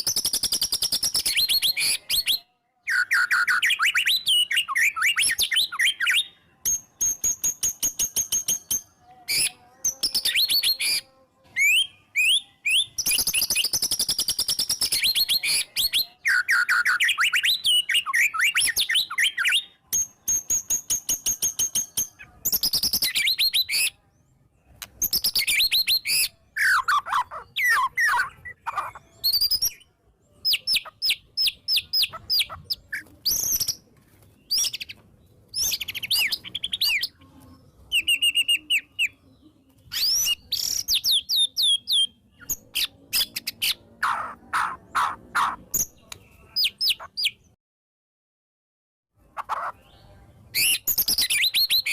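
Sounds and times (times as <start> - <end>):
songbird singing varied song: 0.0 - 47.6.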